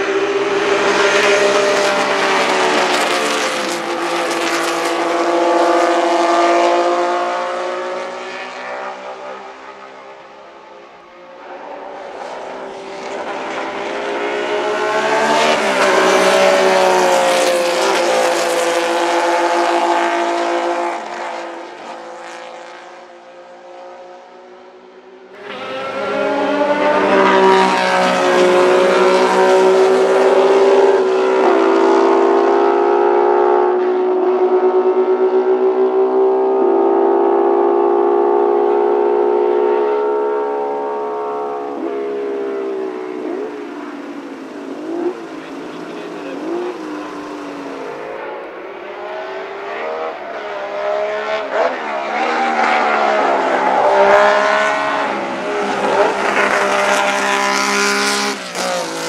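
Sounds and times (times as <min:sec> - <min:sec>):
race car engines at high revs: 0:00.0 - 0:59.0.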